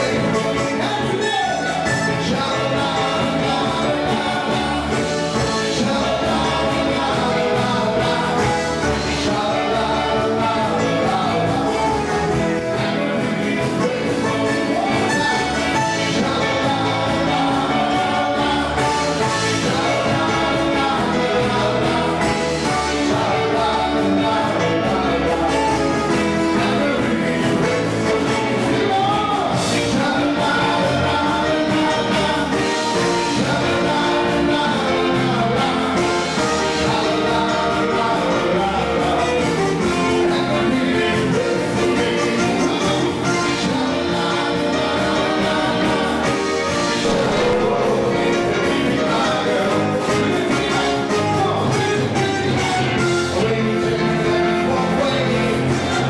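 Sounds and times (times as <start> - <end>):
song with singer and band: 0.0 - 56.0.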